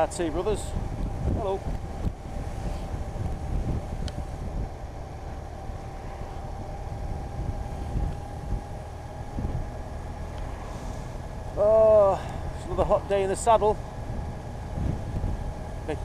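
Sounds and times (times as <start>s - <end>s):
motorcycle engine and road rumble: 0.0s - 16.0s
wind buffeting microphone: 0.0s - 16.0s.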